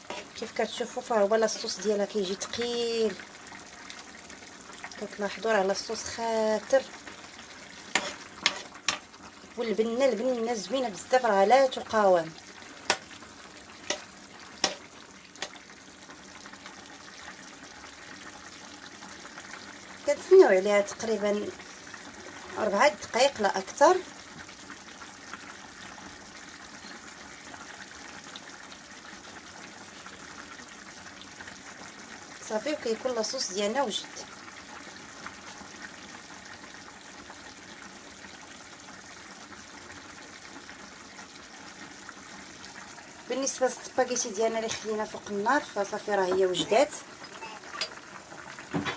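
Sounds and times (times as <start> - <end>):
sauce simmering and bubbling: 0.0 - 48.9.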